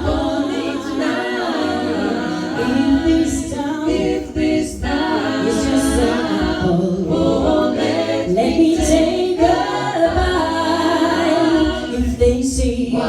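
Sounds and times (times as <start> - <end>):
a cappella group singing harmonies: 0.0 - 13.0.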